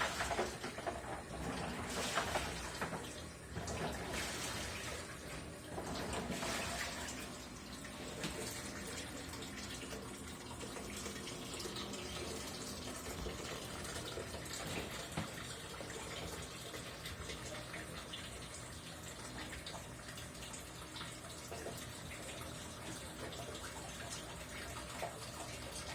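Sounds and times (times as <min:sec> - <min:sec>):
low machine hum: 0:00.0 - 0:25.9
water sloshing in washing machine: 0:00.0 - 0:25.9.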